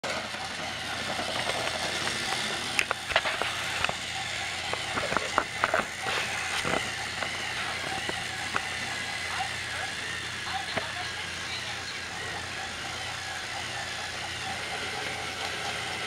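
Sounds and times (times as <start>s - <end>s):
toy train motor whir: 0.0s - 16.0s
wheels clicking and rattling: 0.0s - 16.0s.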